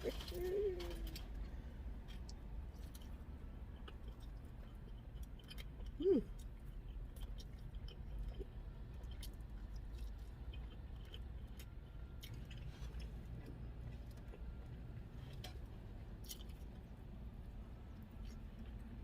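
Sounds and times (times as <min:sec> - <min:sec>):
mouth clicks and chewing: 0:00.1 - 0:17.0, 0:17.8 - 0:19.0.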